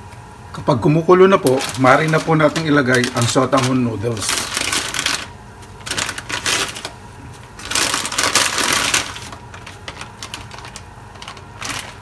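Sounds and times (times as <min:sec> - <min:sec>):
plastic packet crinkling: 0:01.3 - 0:12.0.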